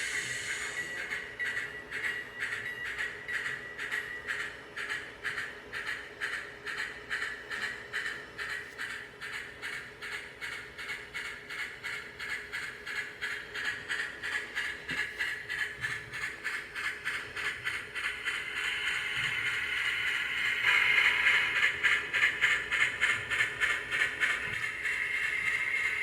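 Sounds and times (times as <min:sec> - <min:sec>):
model steam locomotive exhaust chuffs: 0:00.0 - 0:26.0.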